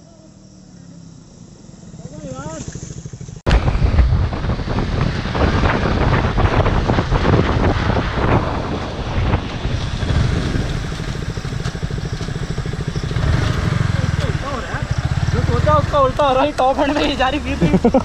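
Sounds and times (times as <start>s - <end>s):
motorcycle engine pulsing: 0.0s - 18.0s
wind buffeting microphone: 3.4s - 18.0s.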